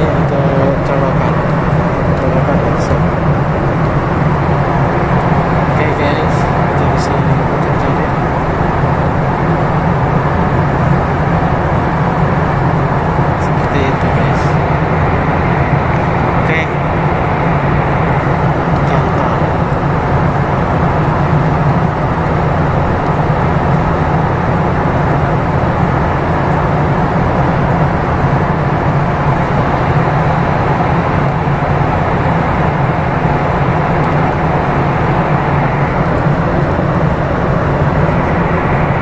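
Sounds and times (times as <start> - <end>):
jet airliner cabin noise: 0.0 - 39.0.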